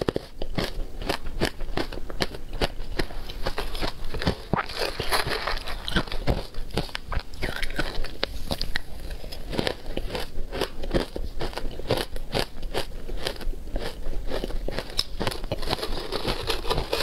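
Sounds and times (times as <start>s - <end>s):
shaved ice crunching in mouth: 0.0s - 17.0s.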